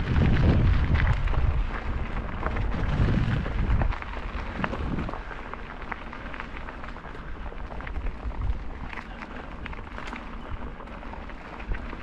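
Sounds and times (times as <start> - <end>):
small clicks and crackles: 0.0 - 12.0
wind buffeting microphone: 0.0 - 12.0.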